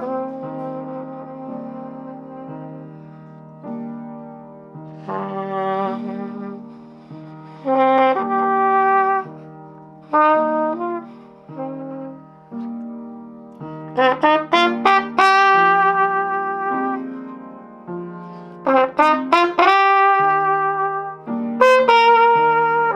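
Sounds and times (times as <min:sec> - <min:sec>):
brass instrument improvising: 0:00.0 - 0:03.0, 0:05.0 - 0:12.8, 0:13.8 - 0:17.6, 0:18.2 - 0:22.9.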